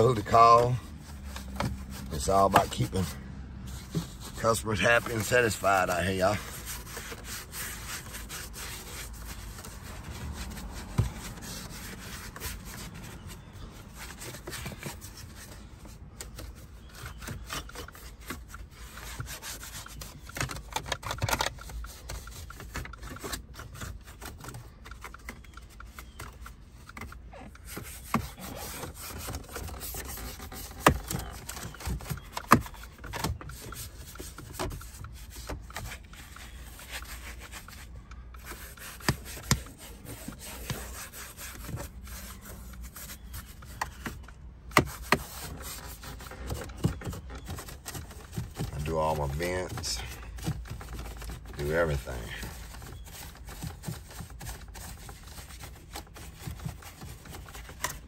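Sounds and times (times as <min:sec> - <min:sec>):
brush scrubbing plastic: 0:00.0 - 0:58.0.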